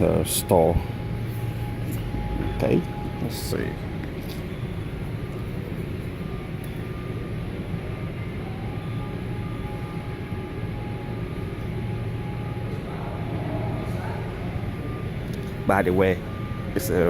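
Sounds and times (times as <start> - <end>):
ventilation hum: 0.0 - 17.0.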